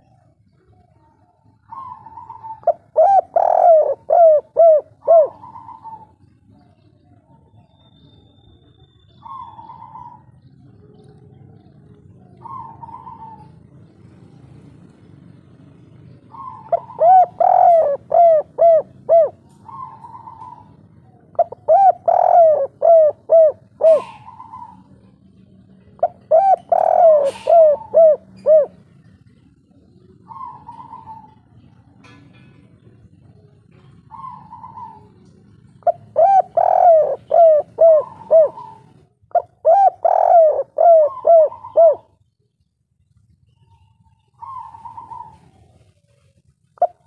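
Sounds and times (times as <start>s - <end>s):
dove cooing: 0.0s - 42.6s, 43.5s - 47.0s.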